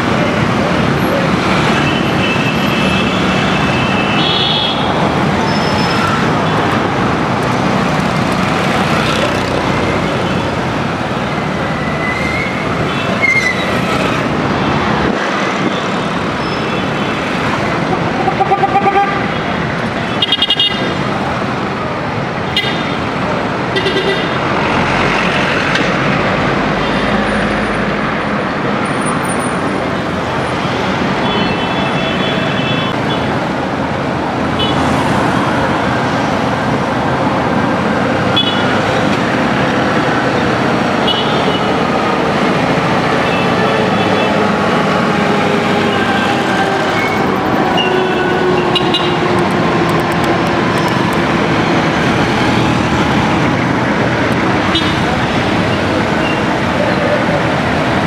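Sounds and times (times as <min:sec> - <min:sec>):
street traffic passing: 0:00.0 - 0:58.0.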